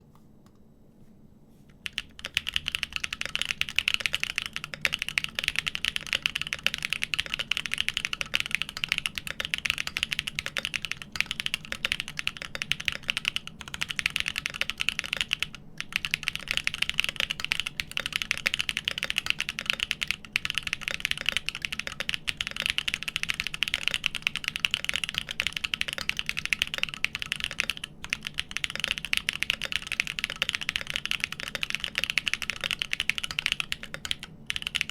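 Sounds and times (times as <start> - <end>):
mechanical keyboard typing: 1.8 - 34.9.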